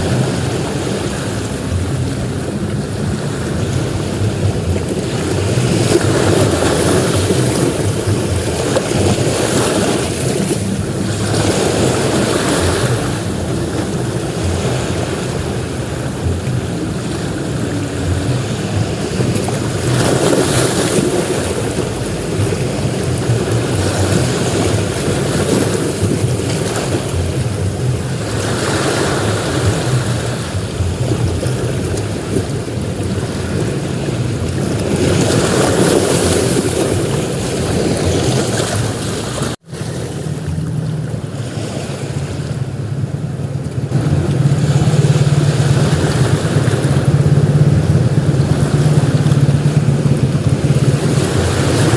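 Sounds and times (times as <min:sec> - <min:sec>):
low rumble: 0:00.0 - 0:34.7, 0:43.8 - 0:51.9
waves breaking on beach: 0:00.0 - 0:51.9
wind: 0:00.0 - 0:51.9.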